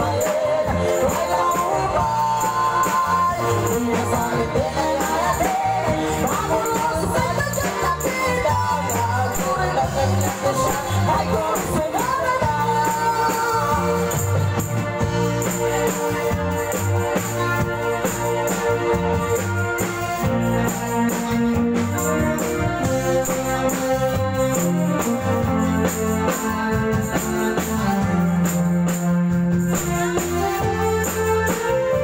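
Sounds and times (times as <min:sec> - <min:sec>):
live band dance music: 0:00.0 - 0:32.0.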